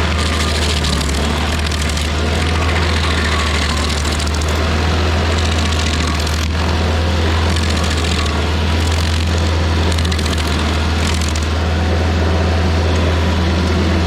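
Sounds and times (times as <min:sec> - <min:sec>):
cutter wheel chewing wood: 0:00.0 - 0:11.6
stump grinder engine hum: 0:00.0 - 0:14.0.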